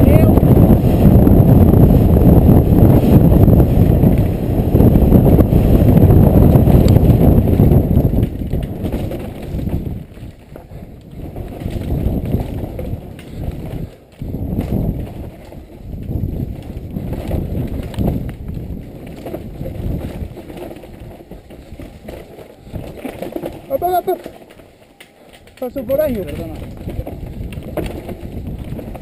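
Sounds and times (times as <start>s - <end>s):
bike rattling over bumps: 0.0s - 29.0s
bike tyres rumbling on dirt: 0.0s - 29.0s
wind buffeting microphone: 0.0s - 29.0s.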